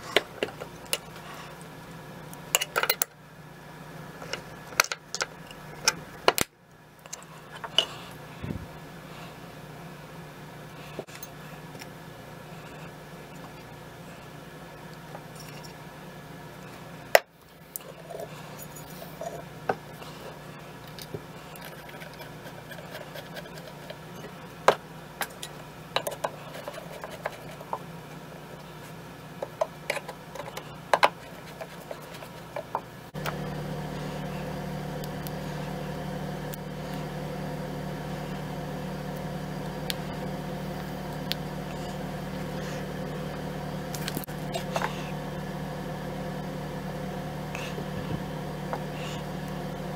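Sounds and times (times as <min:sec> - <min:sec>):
steady background hum: 0:00.0 - 0:49.9.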